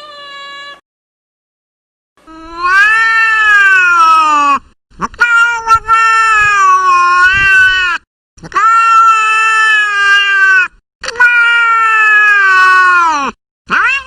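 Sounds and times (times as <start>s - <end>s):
cat meowing: 0.0s - 0.8s, 2.3s - 14.0s.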